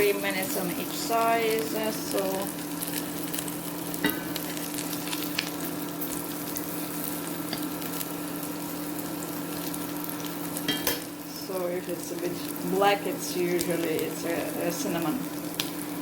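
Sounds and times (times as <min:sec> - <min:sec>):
pancakes sizzling in oil: 0:00.0 - 0:16.0.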